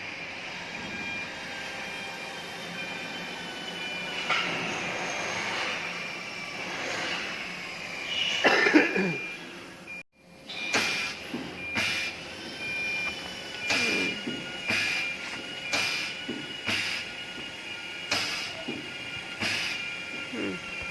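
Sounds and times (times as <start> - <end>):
high-pitched machine whine: 0.0 - 20.9.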